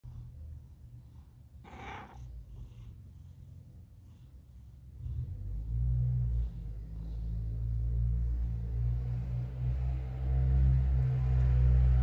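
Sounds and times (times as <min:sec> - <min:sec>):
cat purring: 0:00.1 - 0:12.0.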